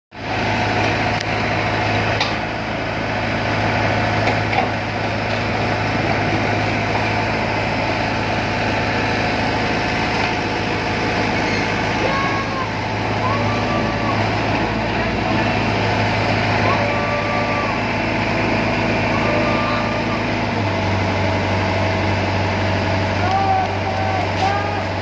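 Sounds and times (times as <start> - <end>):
diesel engine humming: 0.1 - 25.0.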